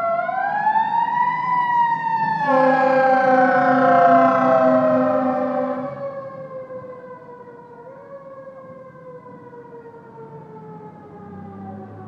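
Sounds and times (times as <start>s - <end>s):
fire engine siren winding down: 0.0s - 12.0s.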